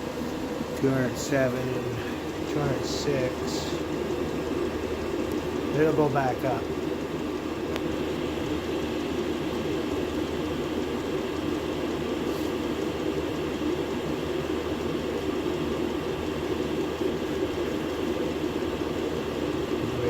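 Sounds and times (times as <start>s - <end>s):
air heater blower roaring: 0.0s - 20.0s.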